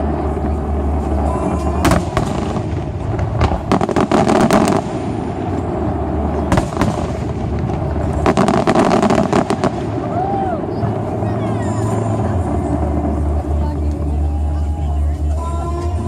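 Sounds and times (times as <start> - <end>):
distant fireworks bursting: 0.0 - 13.4.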